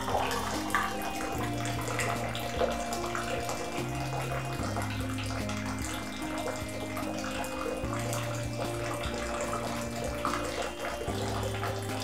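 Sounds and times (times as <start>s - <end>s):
water running from spout: 0.0s - 12.0s.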